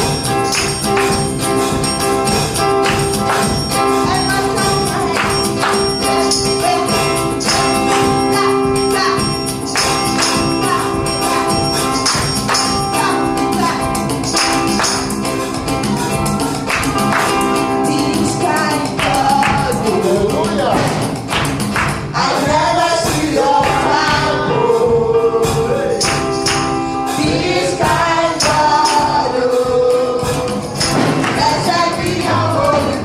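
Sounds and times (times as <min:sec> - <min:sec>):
percussion beat: 0:00.0 - 0:33.0.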